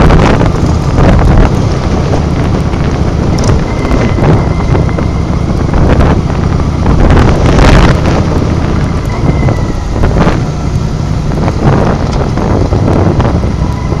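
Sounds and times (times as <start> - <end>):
motorcycle engine rumble: 0.0 - 14.0
wind buffeting microphone: 0.0 - 14.0.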